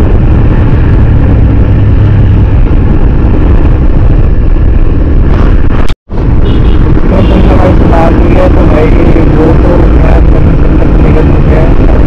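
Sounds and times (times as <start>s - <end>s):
motorcycle riding: 0.0s - 12.0s
wind buffeting microphone: 0.0s - 12.0s.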